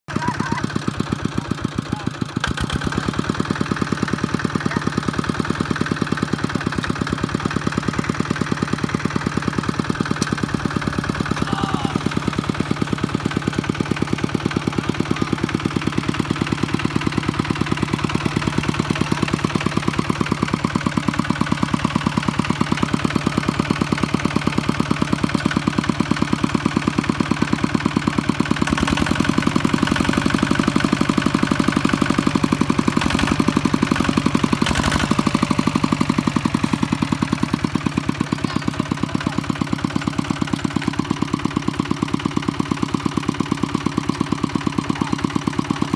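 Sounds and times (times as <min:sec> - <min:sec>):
diesel engine idling: 0:00.1 - 0:45.9.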